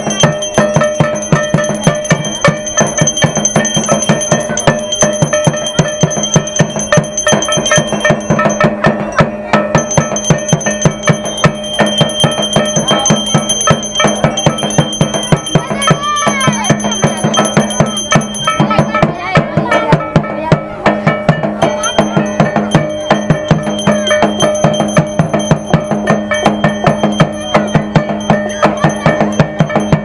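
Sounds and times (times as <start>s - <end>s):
bell ringing: 0.0s - 30.0s
fast drumbeats on barrel drum: 0.0s - 30.0s.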